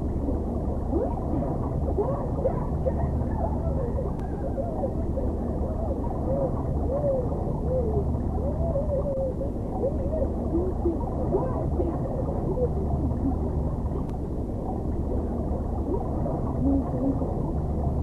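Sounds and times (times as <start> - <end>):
wavering pitch glides: 0.0 - 14.1, 15.0 - 18.0
muffled underwater rumble: 0.0 - 18.0.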